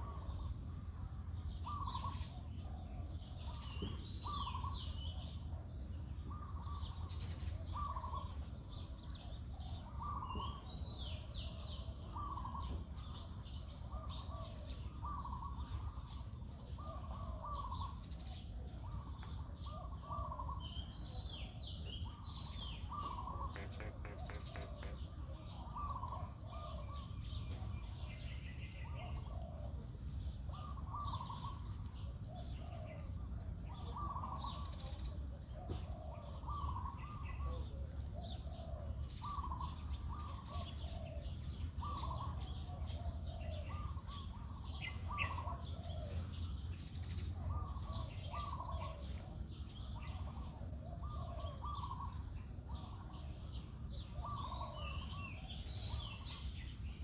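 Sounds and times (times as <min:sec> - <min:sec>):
birds chirping: 0:01.5 - 0:05.5, 0:06.2 - 0:57.0.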